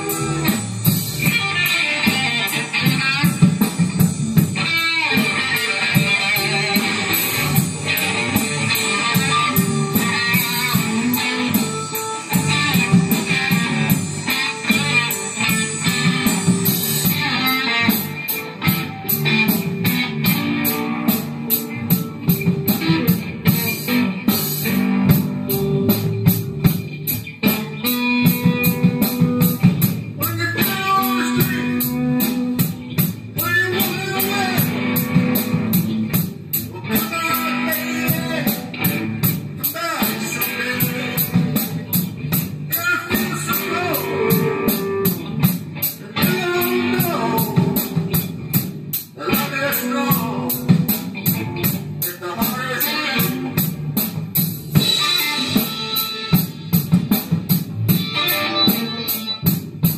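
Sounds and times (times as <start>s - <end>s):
bass guitar: 0.0s - 59.9s
drum kit beat: 0.0s - 59.9s
electric guitar: 0.0s - 59.9s
keyboard: 0.0s - 59.9s.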